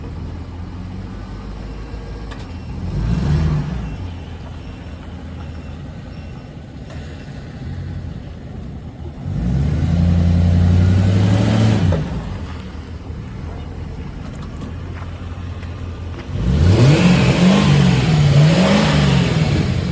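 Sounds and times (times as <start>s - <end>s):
pickup truck engine running: 0.0s - 19.9s.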